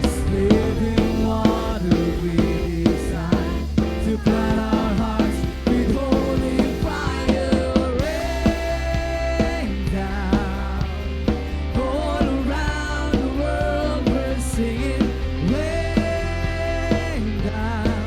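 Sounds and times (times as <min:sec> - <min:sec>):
band playing upbeat rock music: 0:00.0 - 0:18.0
drum kit beat: 0:00.0 - 0:18.0.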